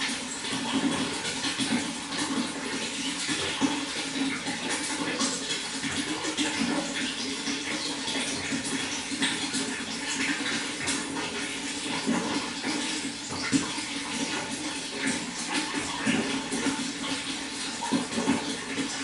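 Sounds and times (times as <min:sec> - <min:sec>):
running water with splashes: 0:00.0 - 0:19.0.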